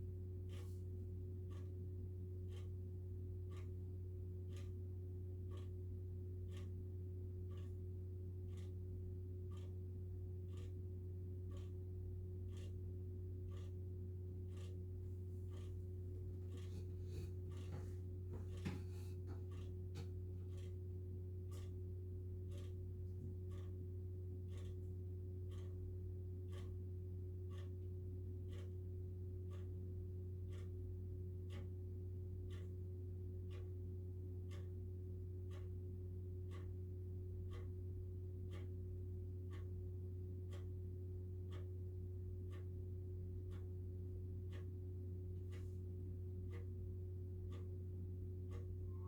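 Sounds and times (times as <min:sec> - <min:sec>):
faint ticking: 0:00.0 - 0:49.0
low electrical hum: 0:00.0 - 0:49.0.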